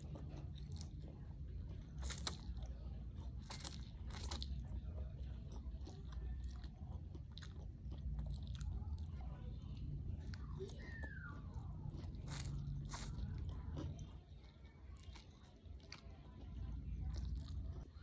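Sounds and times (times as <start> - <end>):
crunchy food chewing: 0.0 - 18.0
low steady hum: 0.0 - 18.0.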